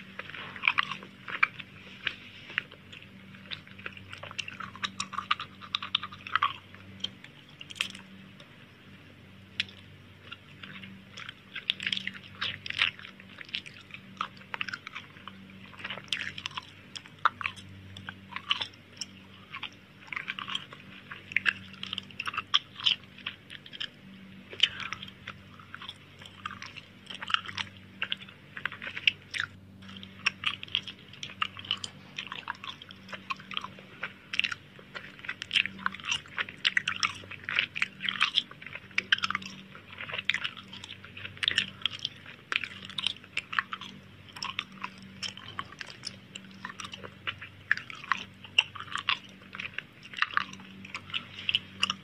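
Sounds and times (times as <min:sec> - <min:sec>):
chewing and biting food: 0:00.0 - 0:52.0.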